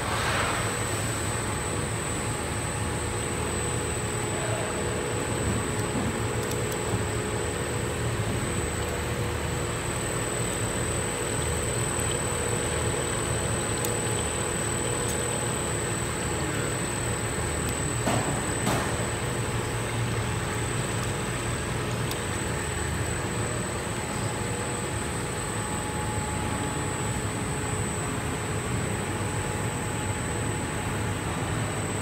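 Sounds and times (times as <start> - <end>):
machine motors humming: 0.2 - 32.0.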